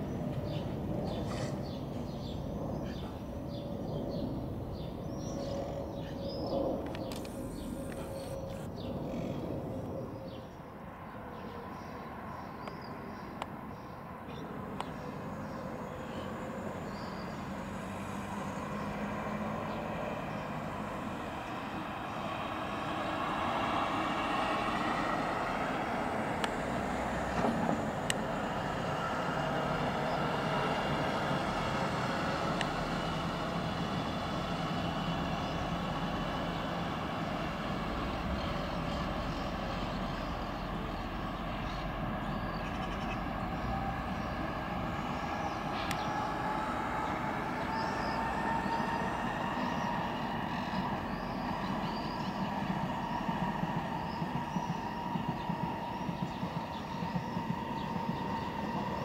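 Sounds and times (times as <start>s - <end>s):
jet airliner passing overhead: 0.0s - 59.0s.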